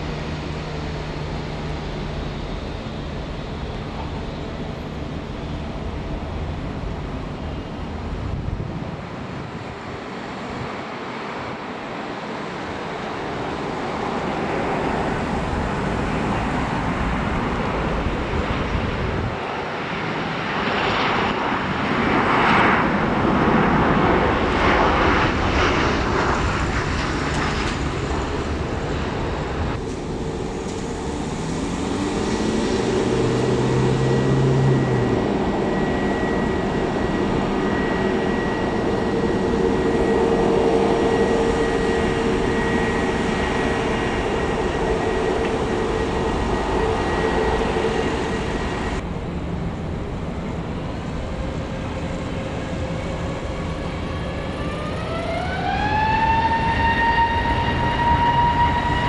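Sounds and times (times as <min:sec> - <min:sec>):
airliner engines rushing: 0:00.0 - 0:59.0
engine whine: 0:00.0 - 0:59.0.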